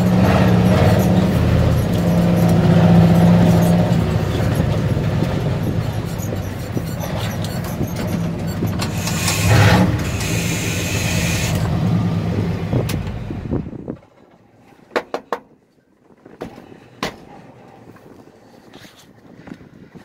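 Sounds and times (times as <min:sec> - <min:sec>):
truck engine and road noise: 0:00.0 - 0:20.0.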